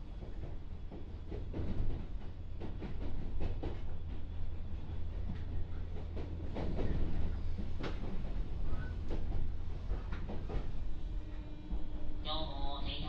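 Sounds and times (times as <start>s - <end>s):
train low rumble: 0.0s - 13.0s
wheels clacking over rail joints: 0.2s - 11.4s.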